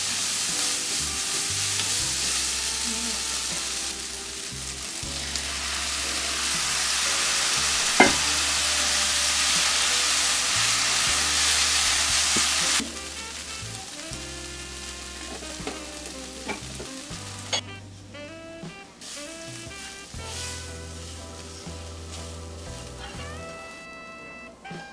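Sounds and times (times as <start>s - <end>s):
water sizzling in frying pan: 0.0s - 24.0s
soft background music: 0.0s - 24.9s.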